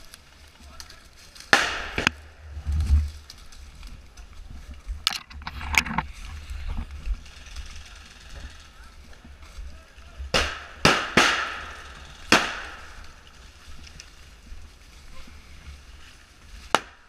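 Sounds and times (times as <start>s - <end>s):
twigs cracking and snapping: 0.0s - 2.2s, 3.0s - 9.7s, 10.3s - 15.4s
footsteps on dry leaves and twigs: 0.0s - 17.0s.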